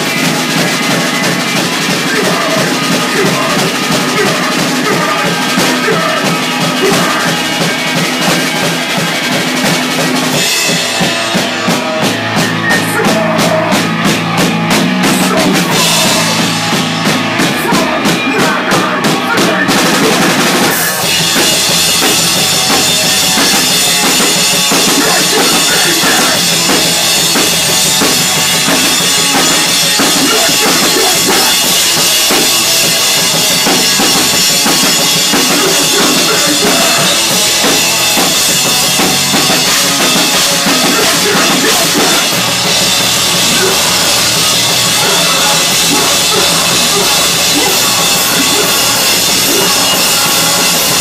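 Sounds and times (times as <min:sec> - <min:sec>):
hardcore band playing live: 0:00.0 - 0:51.0.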